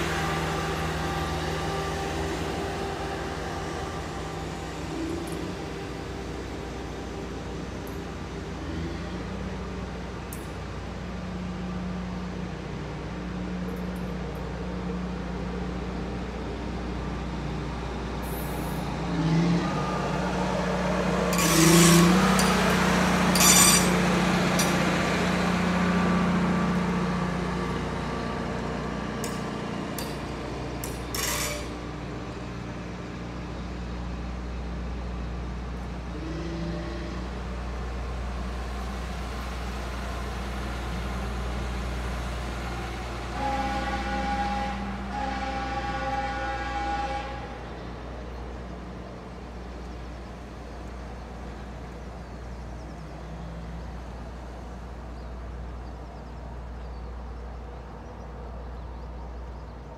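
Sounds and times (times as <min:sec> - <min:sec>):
railroad equipment engine hum: 0:00.0 - 0:59.9.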